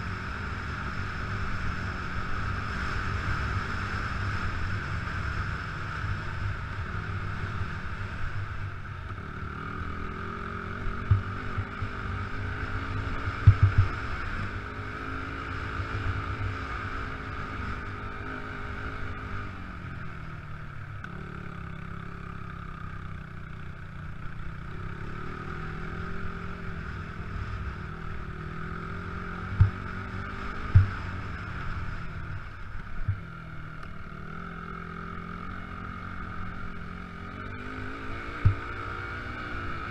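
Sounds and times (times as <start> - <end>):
motocross bike engines: 0.0 - 39.9.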